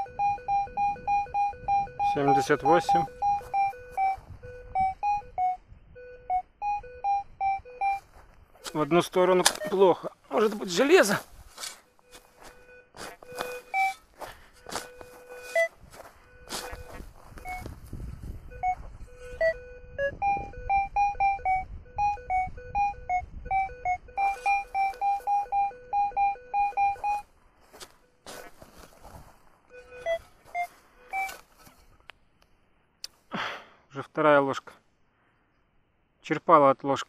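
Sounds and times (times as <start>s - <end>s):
metal detector beeping: 0.0s - 29.0s, 29.7s - 31.6s.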